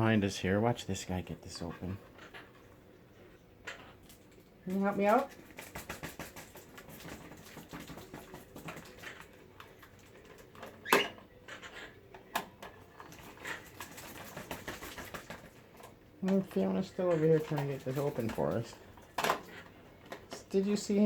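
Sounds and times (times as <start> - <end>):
parrots pecking at a package: 3.7 - 20.8.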